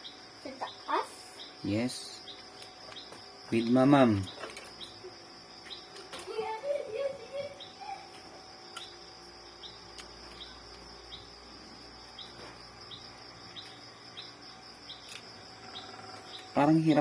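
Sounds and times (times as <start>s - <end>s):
insect chirp: 0.0s - 17.0s
insects droning: 0.0s - 17.0s.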